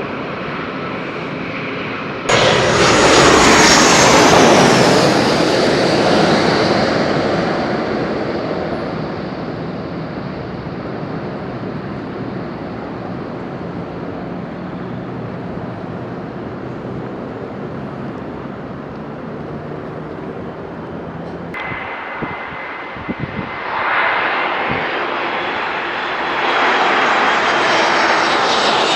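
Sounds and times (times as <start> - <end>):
jet airliner engine noise: 0.0 - 28.9.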